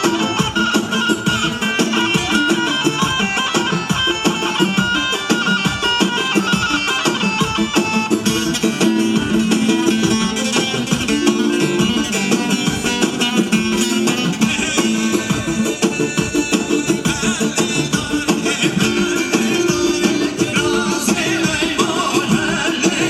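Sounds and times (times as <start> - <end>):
dance music with driving beat: 0.0 - 23.0.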